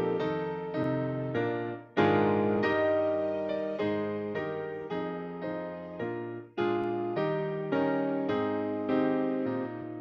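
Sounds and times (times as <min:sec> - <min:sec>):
electric keyboard playing hymn chords: 0:00.0 - 0:10.0.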